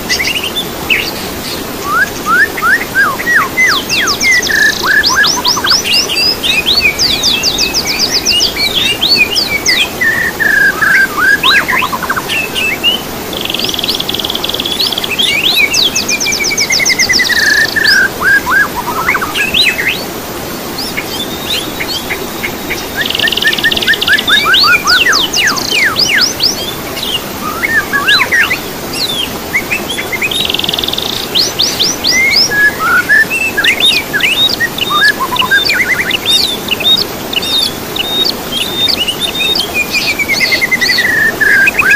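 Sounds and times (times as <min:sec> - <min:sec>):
songbird singing: 0:00.0 - 0:20.1, 0:20.7 - 0:41.9.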